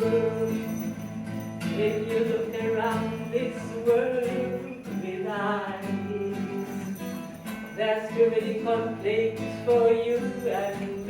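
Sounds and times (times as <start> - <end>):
guitar accompaniment: 0.0 - 11.0.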